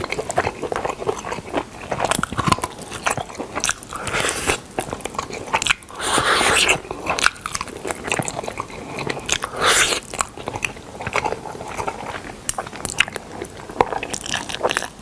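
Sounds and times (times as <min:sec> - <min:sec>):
crunchy chewing mouth sounds: 0:00.0 - 0:15.0.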